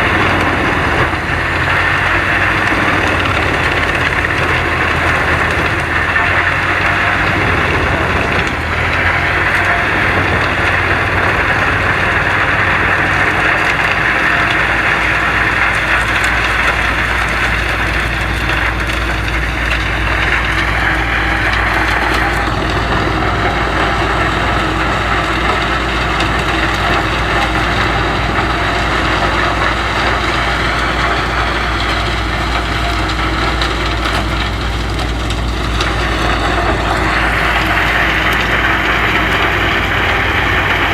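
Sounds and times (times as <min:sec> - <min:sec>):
wood chipper engine running: 0:00.0 - 0:40.9
wood crunching in chipper: 0:00.0 - 0:40.9.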